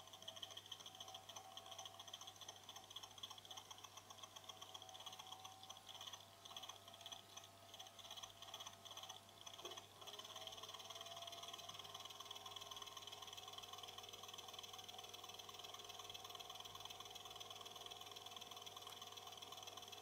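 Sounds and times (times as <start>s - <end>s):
cooler fan and pump whine: 0.0s - 20.0s.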